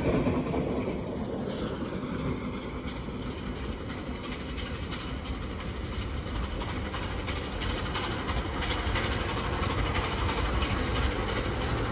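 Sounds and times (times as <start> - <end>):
train engine and rail rumble: 0.0 - 11.9.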